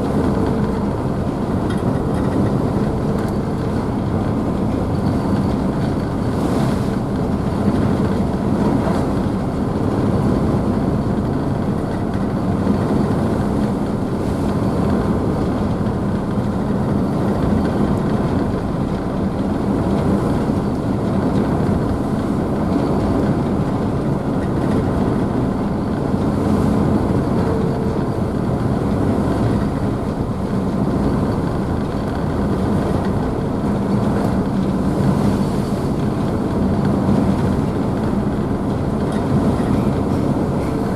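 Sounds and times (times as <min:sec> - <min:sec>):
ferry engines humming: 0:00.0 - 0:40.9
rushing wake and spray: 0:00.0 - 0:40.9.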